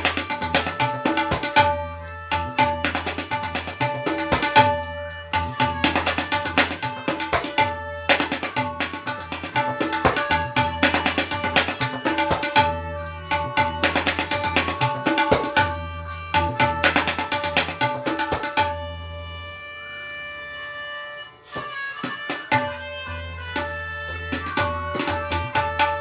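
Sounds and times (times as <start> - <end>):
tabla drumming: 0.0 - 19.1, 21.6 - 26.0
held accompaniment melody: 0.0 - 26.0.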